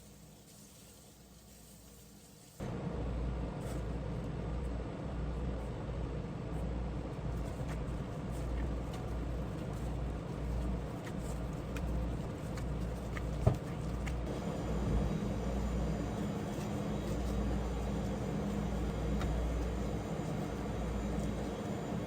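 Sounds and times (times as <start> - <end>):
low machine hum: 2.6 - 22.0.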